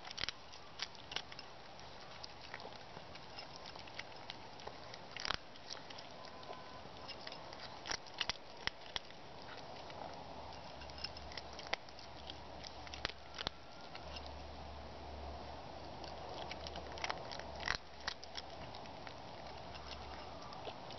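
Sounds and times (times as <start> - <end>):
cat chewing and biting: 0.0 - 14.5, 15.6 - 20.9.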